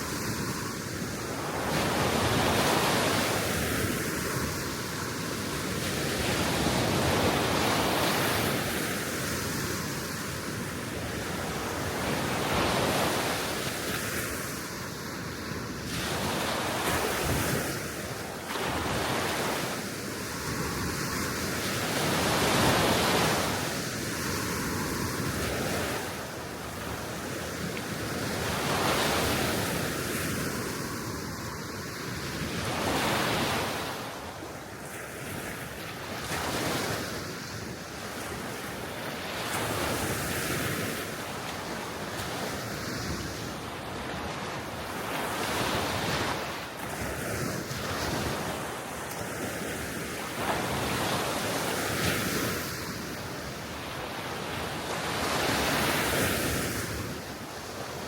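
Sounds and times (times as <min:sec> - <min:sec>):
small waves breaking on shore: 0:00.0 - 0:58.0
wind on microphone: 0:00.0 - 0:58.0.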